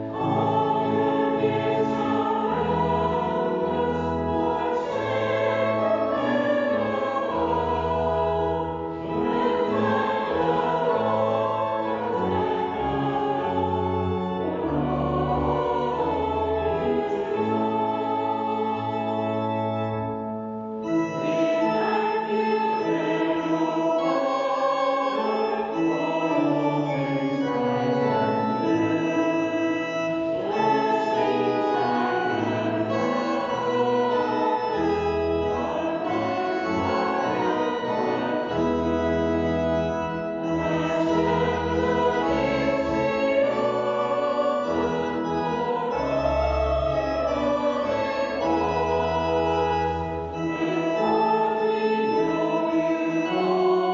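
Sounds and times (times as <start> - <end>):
choir singing a hymn: 0.0 - 53.9
organ accompaniment: 0.0 - 53.9.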